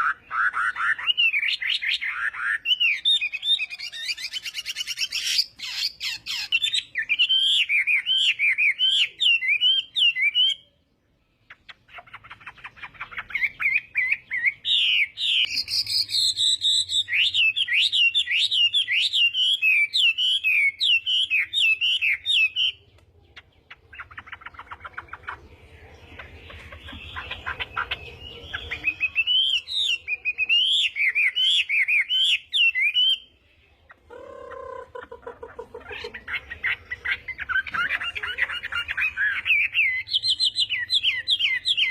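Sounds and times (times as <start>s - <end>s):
bird warbling song: 0.0s - 41.9s.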